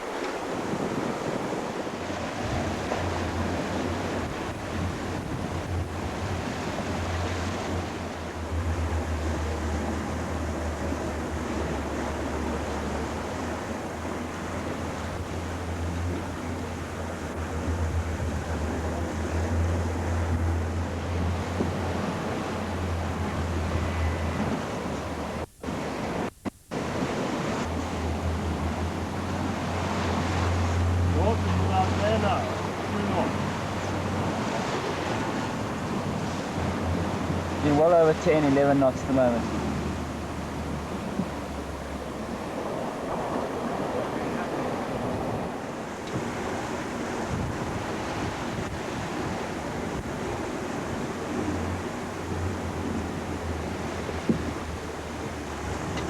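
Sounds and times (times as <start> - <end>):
wind buffeting microphone: 0.0 - 38.3, 39.0 - 56.0
low wind rumble: 0.0 - 56.0
rushing water: 0.0 - 56.0.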